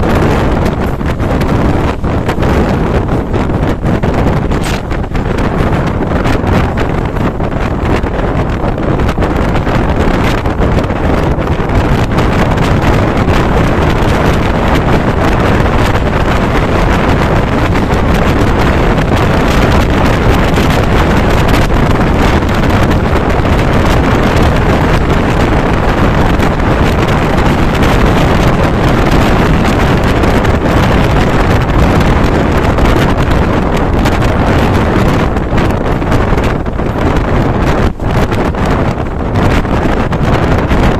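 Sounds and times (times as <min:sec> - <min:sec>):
train running rumble: 0:00.0 - 0:40.9
wind rushing across microphone: 0:00.0 - 0:40.9.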